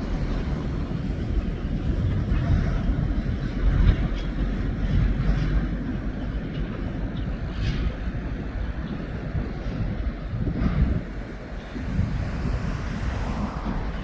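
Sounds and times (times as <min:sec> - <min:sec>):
freight train rumbling past: 0:00.0 - 0:14.0
wind buffeting microphone: 0:00.0 - 0:14.0.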